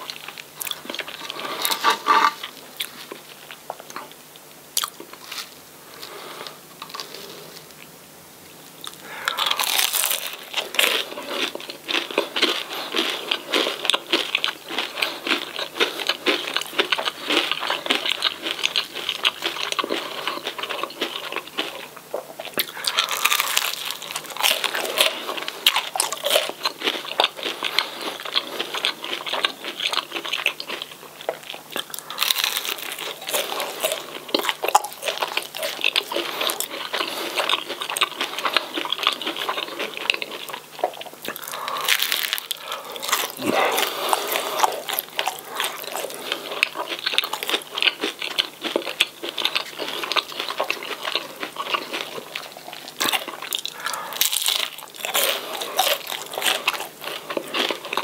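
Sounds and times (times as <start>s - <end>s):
crunching and chewing crispy food: 0.0s - 7.9s, 8.5s - 58.0s.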